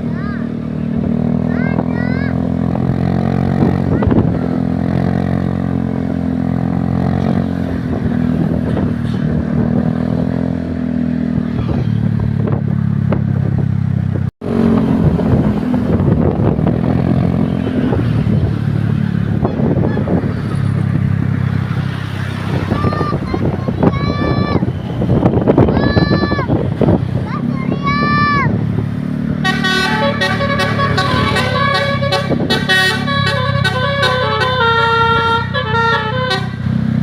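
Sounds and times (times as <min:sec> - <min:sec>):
heavy vehicle engines droning: 0:00.0 - 0:37.0.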